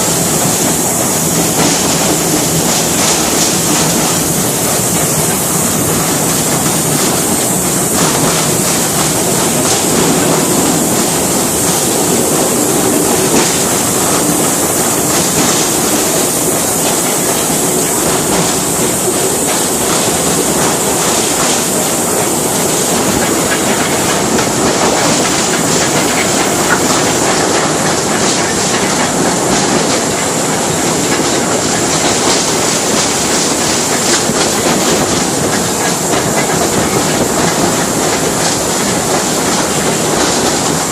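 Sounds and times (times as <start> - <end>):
train rumbling along track: 0.0 - 40.9
wheels clicking over rail joints: 0.0 - 40.9.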